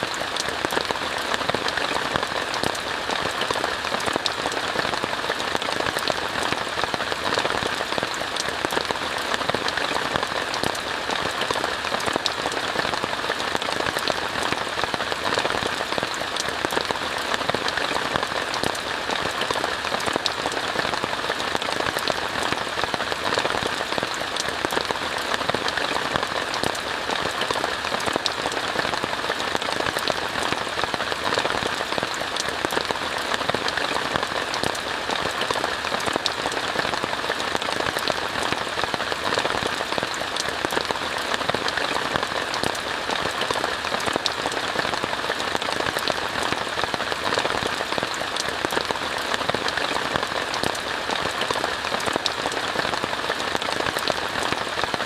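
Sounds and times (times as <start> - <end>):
rain falling on a tent: 0.0 - 55.0.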